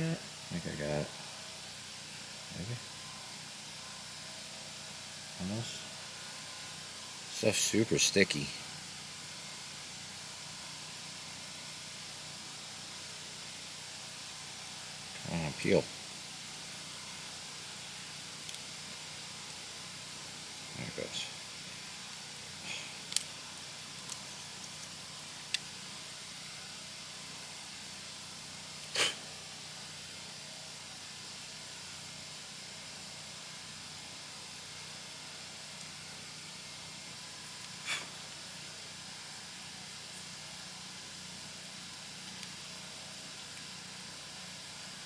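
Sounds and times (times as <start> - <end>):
faint hiss: 0.0 - 45.0.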